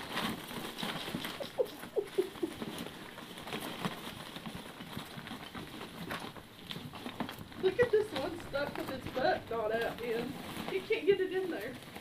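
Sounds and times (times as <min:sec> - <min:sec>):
packing peanuts rustling: 0:00.0 - 0:12.0.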